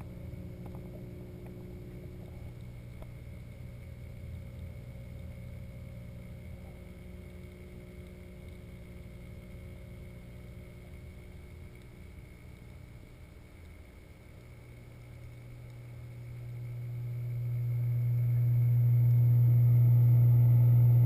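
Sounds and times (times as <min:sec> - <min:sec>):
aquarium water pumps humming: 0:00.0 - 0:21.0
faint whining tones: 0:00.0 - 0:21.0.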